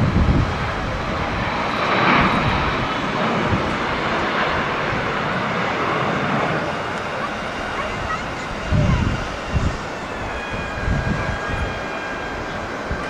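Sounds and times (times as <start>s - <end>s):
jet airliner roaring at takeoff: 0.0s - 13.0s.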